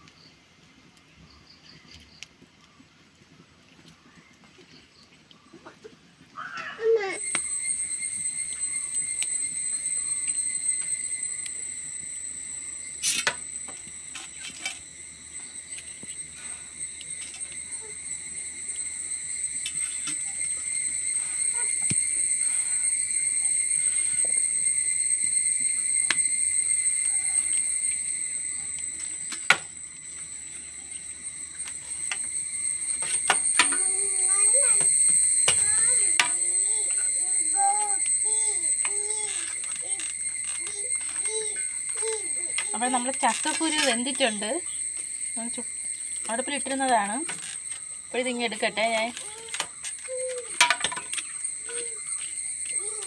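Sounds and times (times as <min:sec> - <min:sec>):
insect chirring: 0:03.9 - 0:53.0.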